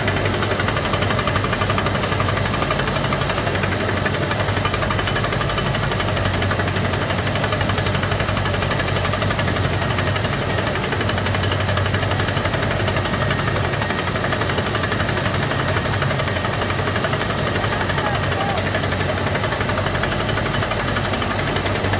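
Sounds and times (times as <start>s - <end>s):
engine drone: 0.0s - 21.9s.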